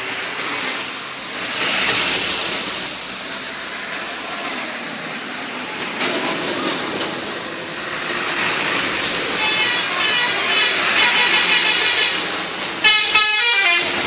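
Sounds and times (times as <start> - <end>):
roadside traffic noise: 0.0 - 14.0.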